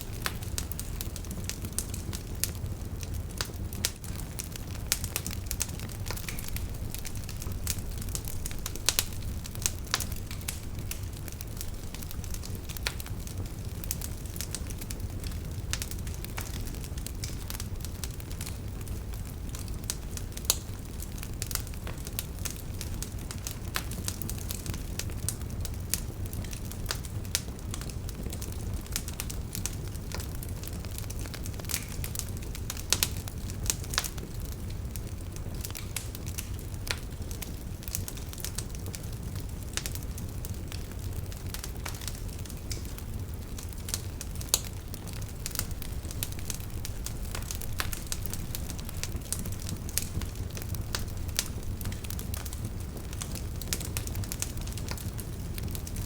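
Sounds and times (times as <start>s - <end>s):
low rumble of flames: 0.0s - 56.0s
wood crackling and popping: 0.0s - 56.0s.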